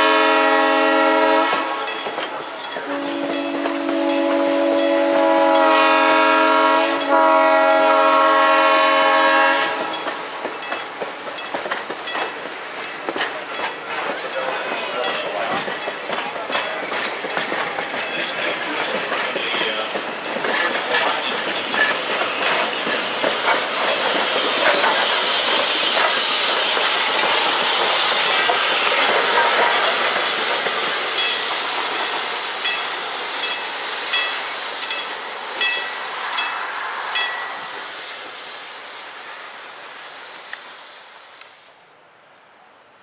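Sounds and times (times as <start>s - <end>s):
train wheels hissing on rails: 0.0s - 42.6s.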